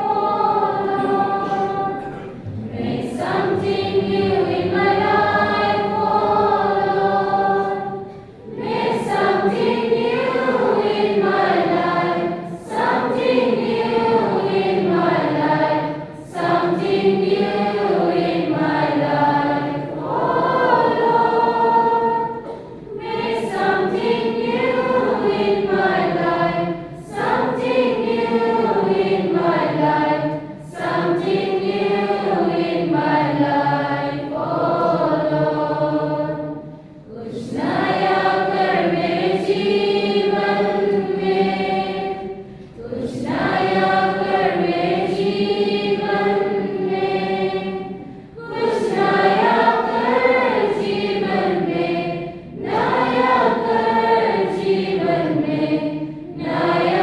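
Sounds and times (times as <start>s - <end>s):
group singing a slow hymn: 0.0s - 57.0s.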